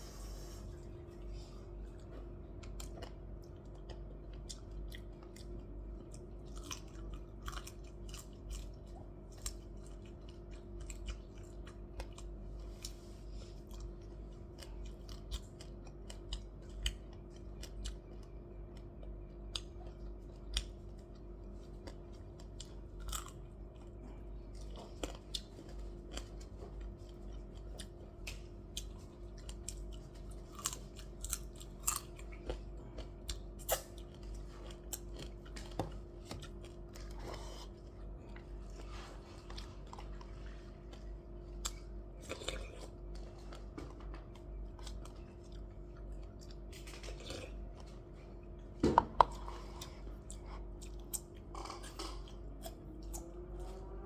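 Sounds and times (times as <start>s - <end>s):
chewing and crunching food: 0.0s - 54.0s
steady low hum: 0.0s - 54.0s.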